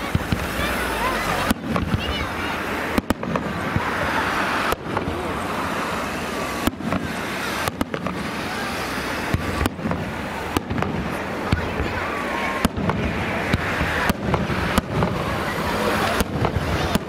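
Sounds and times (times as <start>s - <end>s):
constant rushing noise: 0.0s - 17.0s
firework shells bursting: 0.0s - 17.0s.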